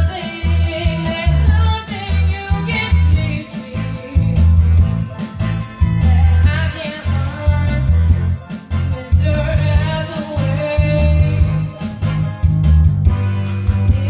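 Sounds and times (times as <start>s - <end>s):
woman singing into microphone: 0.0s - 5.0s, 5.7s - 11.8s, 13.8s - 14.0s
backing track with bass beat: 0.0s - 14.0s.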